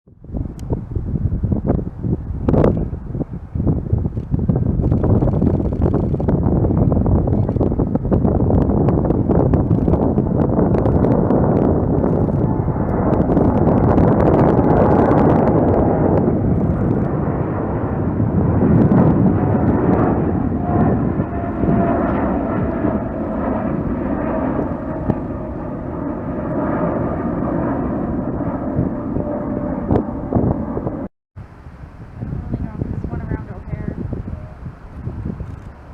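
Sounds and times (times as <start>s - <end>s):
jet engine whine: 0.1s - 35.9s
jet engines roaring: 0.5s - 35.9s.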